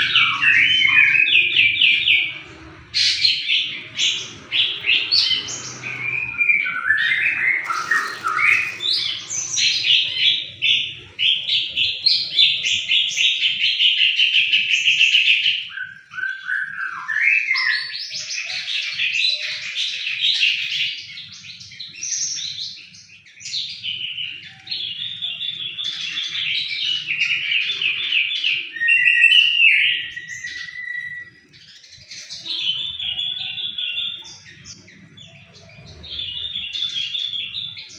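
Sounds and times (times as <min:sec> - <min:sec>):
songbird trilling song: 0:00.0 - 0:37.9.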